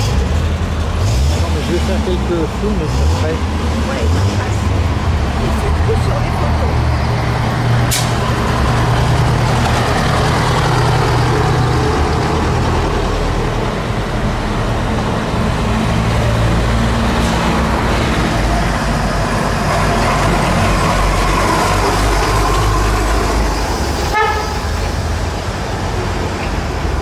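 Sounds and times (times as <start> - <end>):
trucks driving past: 0.0 - 27.0.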